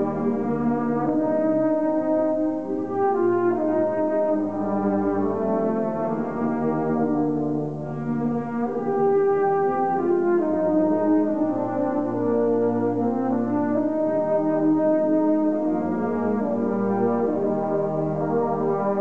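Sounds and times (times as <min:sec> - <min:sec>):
brass section playing held chords: 0:00.0 - 0:19.0.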